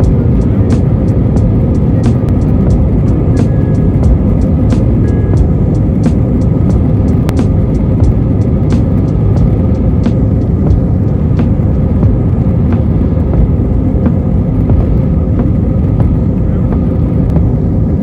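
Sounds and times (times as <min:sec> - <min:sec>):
airliner cabin rumble: 0:00.0 - 0:18.0
steady hum: 0:00.0 - 0:18.0.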